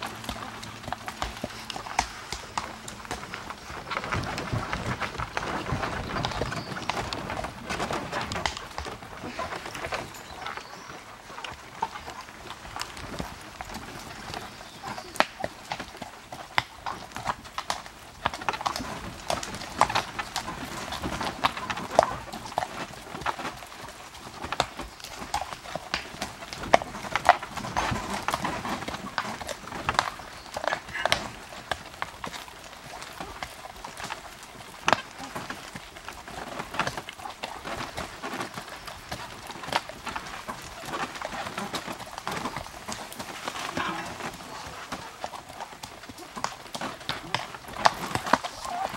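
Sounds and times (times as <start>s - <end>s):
horse hooves clip-clopping on dirt: 0.0s - 48.9s.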